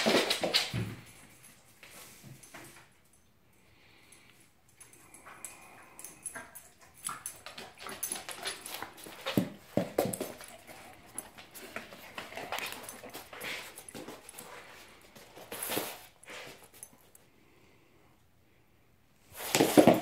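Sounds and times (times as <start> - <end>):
dog claws clicking on floor: 0.0 - 2.9, 4.7 - 17.2, 19.4 - 20.0.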